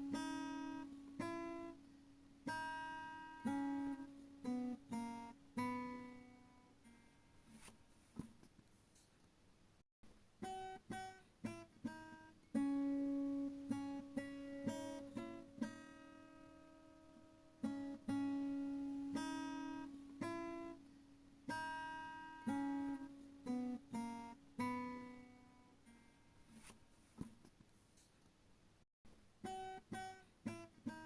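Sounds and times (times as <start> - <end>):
acoustic guitar slow melody: 0.0 - 8.2, 10.4 - 27.2, 29.4 - 31.0.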